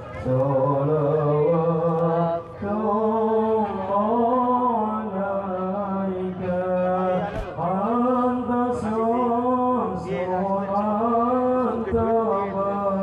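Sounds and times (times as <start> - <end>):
man chanting: 0.1 - 13.0.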